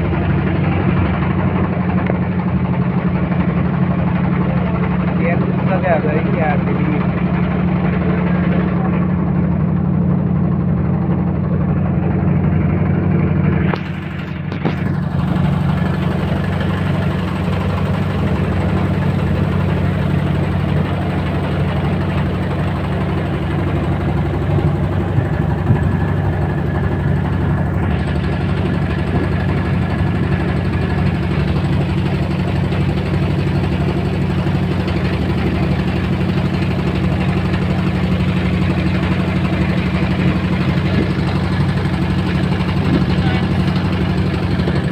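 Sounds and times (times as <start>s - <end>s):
boat engine droning: 0.0s - 44.9s.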